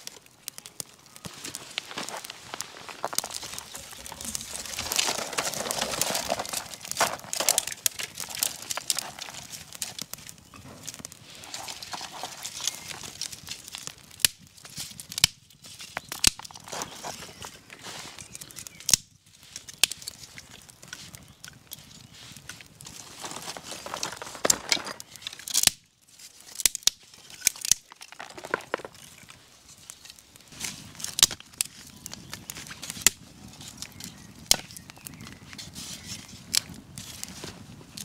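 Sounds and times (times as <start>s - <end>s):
kindling crackling and popping: 0.0s - 38.0s
twigs being handled: 0.0s - 38.0s.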